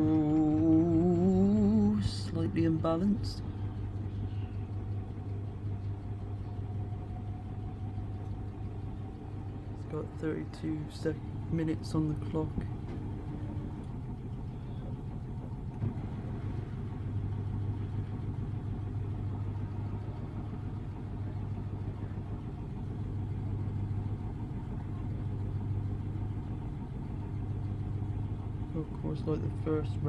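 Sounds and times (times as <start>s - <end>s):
washing machine drum spinning: 0.0s - 30.0s.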